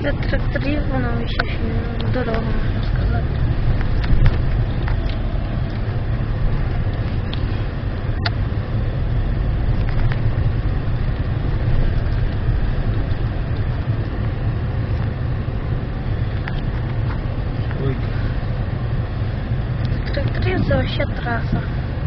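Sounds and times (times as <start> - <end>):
car rumbling over dirt track: 0.0 - 22.0.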